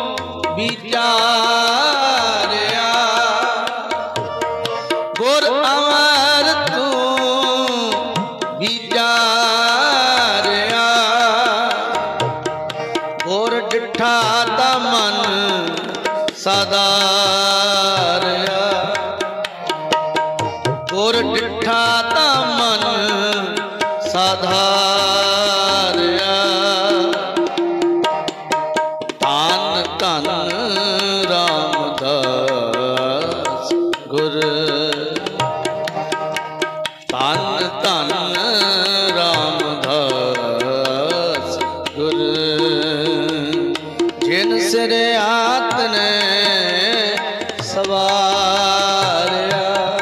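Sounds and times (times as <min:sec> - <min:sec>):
tabla rhythm: 0:00.0 - 0:50.0.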